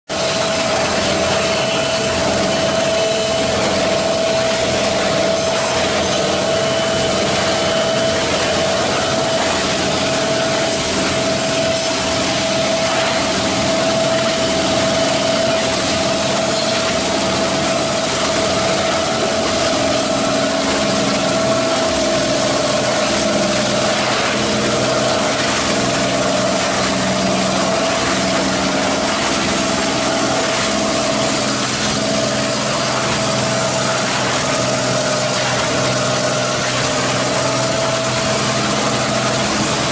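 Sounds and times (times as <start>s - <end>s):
washing line machinery noise: 0.0s - 39.9s
steady machine hum: 0.1s - 39.9s.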